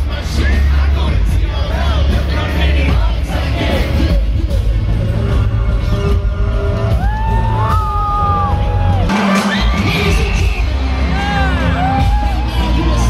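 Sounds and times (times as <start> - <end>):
rapped vocals: 0.0 - 7.7, 9.0 - 13.0
live band with heavy bass and drums: 0.0 - 13.0.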